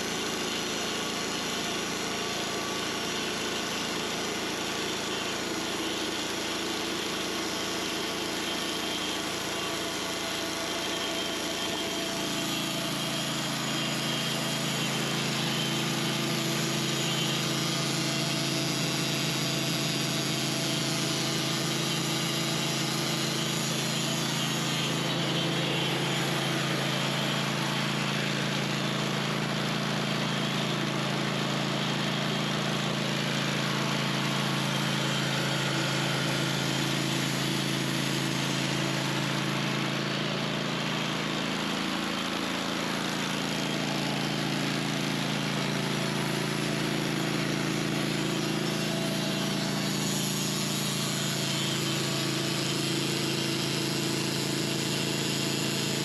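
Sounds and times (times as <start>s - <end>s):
blade sawing through log: 0.0s - 56.0s
sawmill engine humming: 0.0s - 56.0s.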